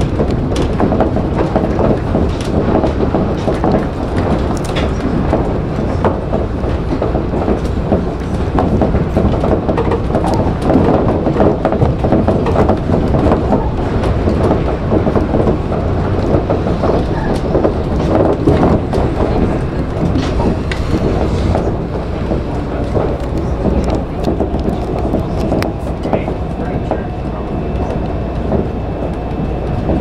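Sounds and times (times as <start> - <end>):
monorail running noise: 0.0 - 30.0.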